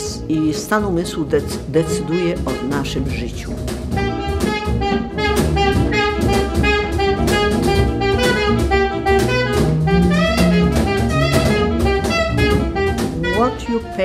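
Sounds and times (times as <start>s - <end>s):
drum kit: 0.0s - 14.0s
saxophone melody: 0.0s - 14.0s.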